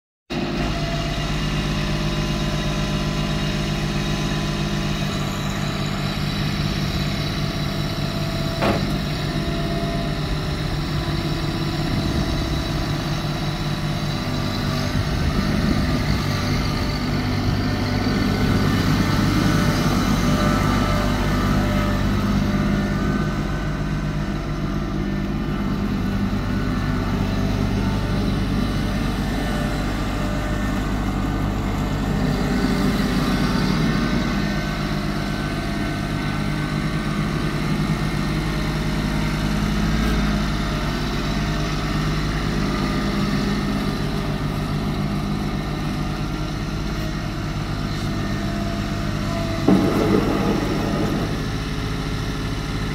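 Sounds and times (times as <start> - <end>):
tractor diesel engine running: 0.3 - 52.9.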